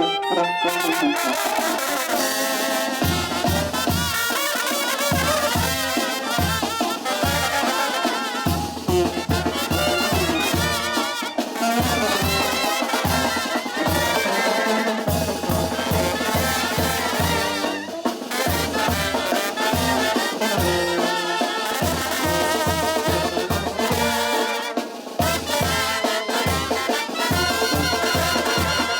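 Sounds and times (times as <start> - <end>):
brass band playing: 0.0 - 28.9
drums: 1.0 - 28.9.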